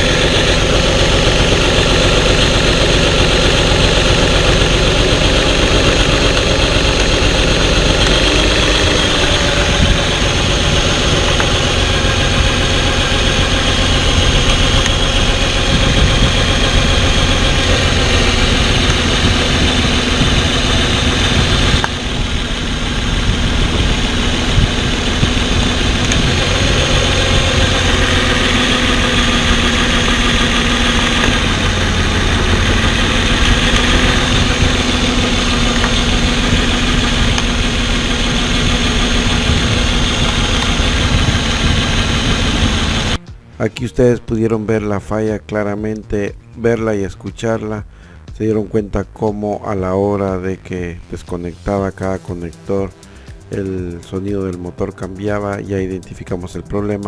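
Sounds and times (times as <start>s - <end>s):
truck engine idling with misfire: 0.0s - 43.2s, 51.6s - 57.0s.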